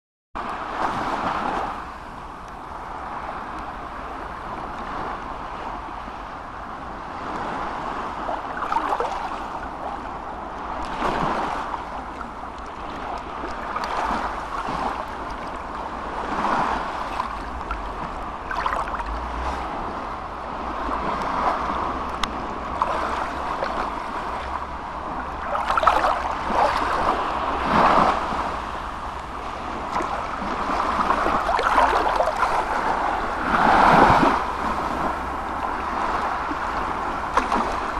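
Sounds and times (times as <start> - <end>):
low wind rumble: 0.4 - 37.9
small waves lapping on a beach: 0.4 - 37.9.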